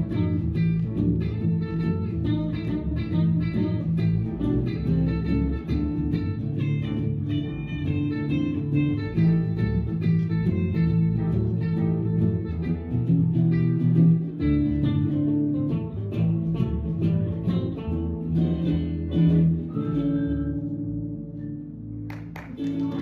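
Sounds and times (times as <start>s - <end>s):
electric guitar band playing: 0.0s - 23.0s.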